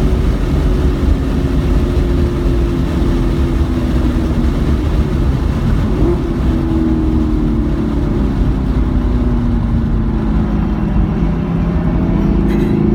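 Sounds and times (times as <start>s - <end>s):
car engine running at low revs: 0.0s - 12.9s
road and wind noise: 0.0s - 12.9s.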